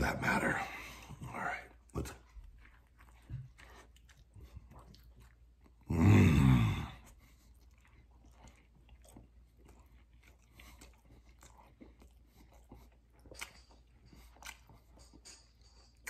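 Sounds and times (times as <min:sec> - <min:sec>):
man chewing food: 0:00.0 - 0:16.0.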